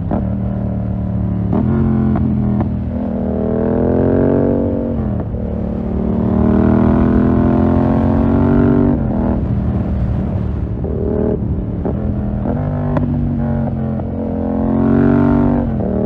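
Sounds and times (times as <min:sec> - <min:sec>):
motorcycle accelerating hard: 0:00.0 - 0:16.0.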